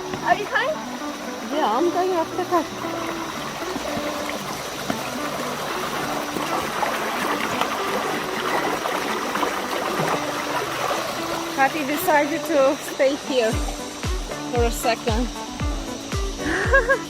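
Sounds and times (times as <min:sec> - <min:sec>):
creek water over rocks: 0:00.0 - 0:17.0.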